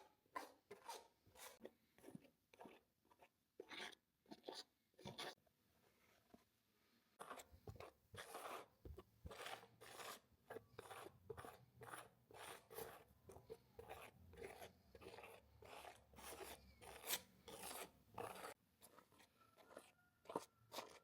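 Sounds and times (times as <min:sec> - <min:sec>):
scratchy strokes on canvas: 0:00.4 - 0:06.4, 0:07.2 - 0:21.0.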